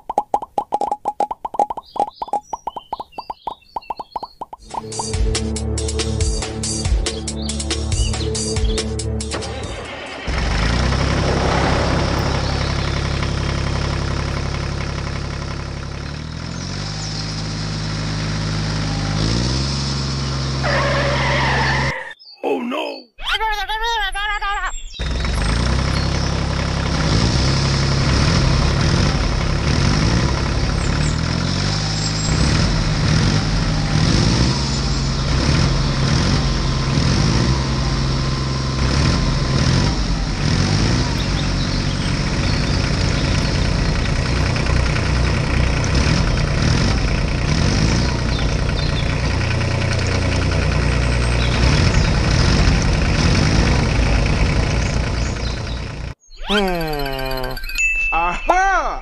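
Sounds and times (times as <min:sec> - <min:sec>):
tractor engine running: 0:00.0 - 0:22.1, 0:24.9 - 0:58.3.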